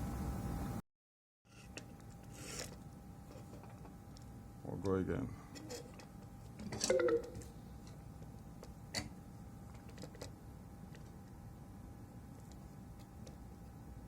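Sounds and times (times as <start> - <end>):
faint steady whine: 0.0 - 0.8, 1.5 - 14.0.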